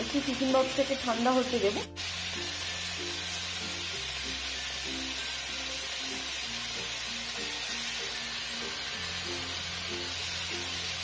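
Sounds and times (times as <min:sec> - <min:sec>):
steady hiss: 0:00.7 - 0:11.0.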